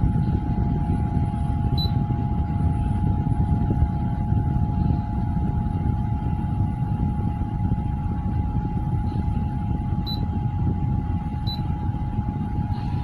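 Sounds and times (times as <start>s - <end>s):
fan airflow buffeting microphone: 0.0s - 13.0s
thin motor whine: 0.0s - 13.0s.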